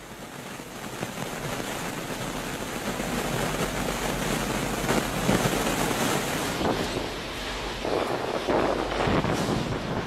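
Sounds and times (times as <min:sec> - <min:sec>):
heavy rain: 0:00.0 - 0:10.0
wind rumbling on microphone: 0:00.0 - 0:10.0
storm wind gusting: 0:00.8 - 0:10.0.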